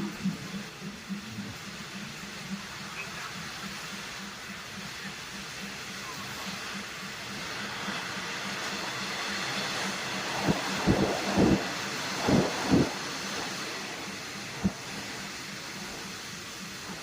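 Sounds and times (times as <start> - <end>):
train rumbling hiss: 0.0 - 17.0.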